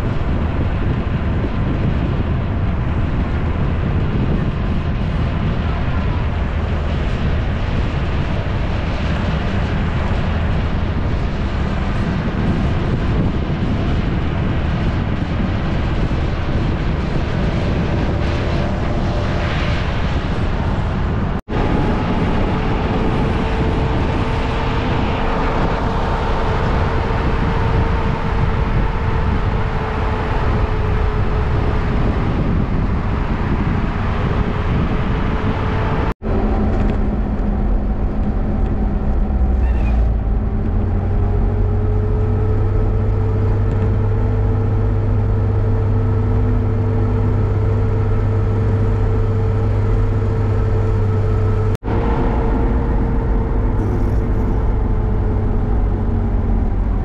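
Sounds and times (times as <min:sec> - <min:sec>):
faint engine hum: 0:00.0 - 0:57.0
wind rushing over microphone: 0:00.0 - 0:57.0.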